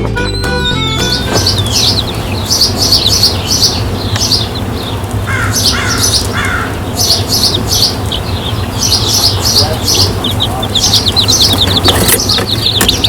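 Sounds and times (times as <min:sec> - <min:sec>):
birds chirping: 0:00.0 - 0:13.0
lower falling bird calls: 0:00.4 - 0:13.0
steady low hum: 0:01.2 - 0:13.0.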